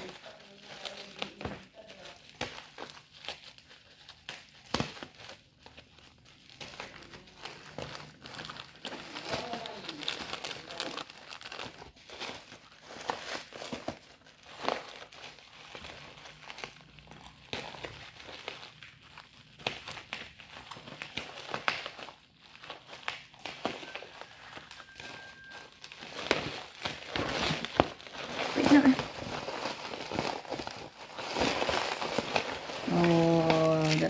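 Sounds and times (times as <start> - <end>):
bubble wrap crinkling: 0.0 - 34.0
scissors cutting plastic: 0.0 - 34.0.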